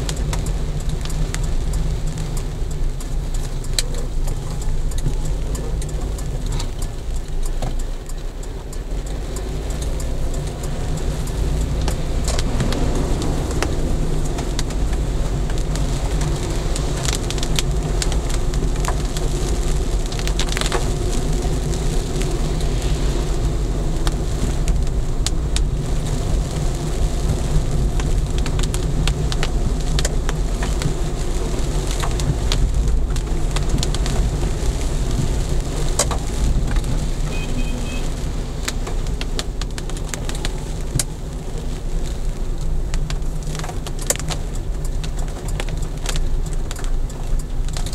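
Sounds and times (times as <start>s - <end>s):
raindrops ticking on car roof: 0.0s - 47.9s
road and engine rumble: 0.0s - 47.9s.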